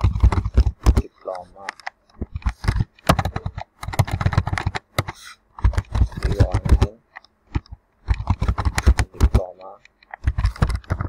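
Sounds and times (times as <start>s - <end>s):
computer keyboard typing: 0.0s - 11.0s.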